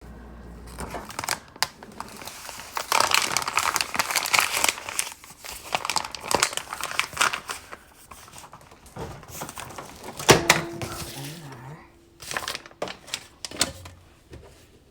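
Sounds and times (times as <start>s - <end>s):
packaging crinkling and tearing: 0.7s - 14.0s.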